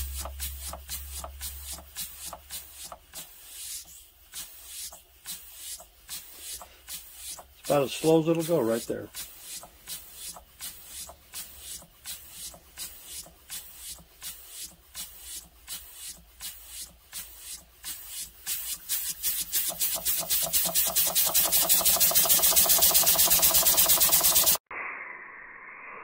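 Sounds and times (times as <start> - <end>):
air engine exhaust puffing: 0.0 - 4.5, 6.1 - 24.6.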